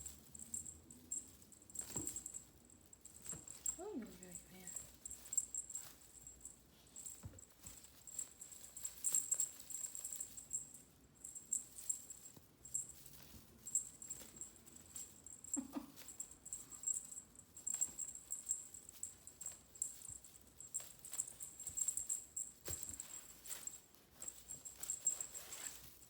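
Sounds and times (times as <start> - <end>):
faint jingle: 0.0 - 26.0.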